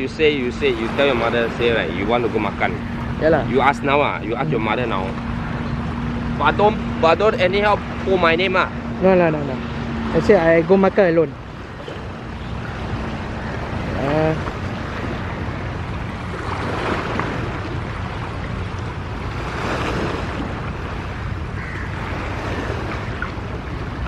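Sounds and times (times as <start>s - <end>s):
surf washing on shore: 0.0s - 24.0s
wind rumbling on microphone: 0.0s - 24.0s.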